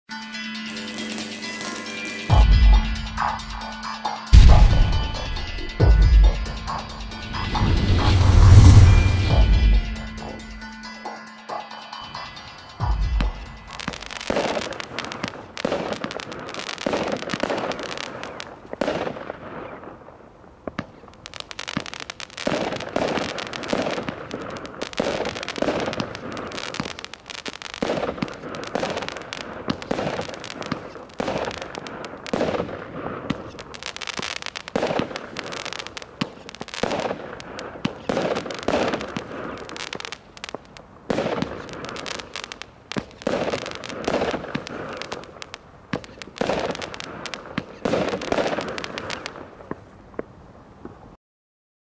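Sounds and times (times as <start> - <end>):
firework crackling: 4.3 - 10.7, 13.2 - 50.0.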